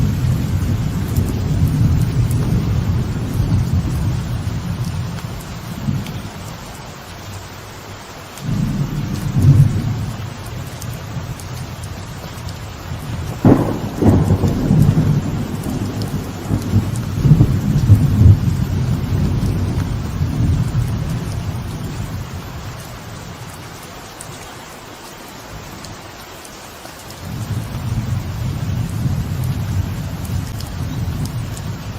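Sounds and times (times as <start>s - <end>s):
thunder cracks and rumble: 0.0s - 6.5s, 8.4s - 23.0s, 27.2s - 31.9s
light rain on a veranda: 0.0s - 31.9s.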